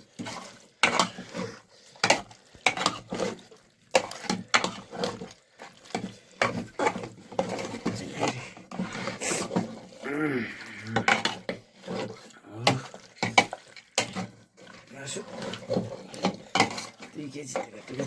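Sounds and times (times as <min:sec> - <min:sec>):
cooking pots and utensils clattering: 0:00.0 - 0:10.0, 0:10.8 - 0:18.0.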